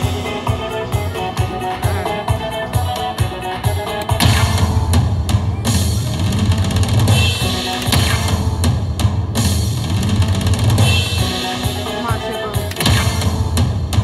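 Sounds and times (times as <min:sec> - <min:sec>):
slot machine music: 0:00.0 - 0:13.8.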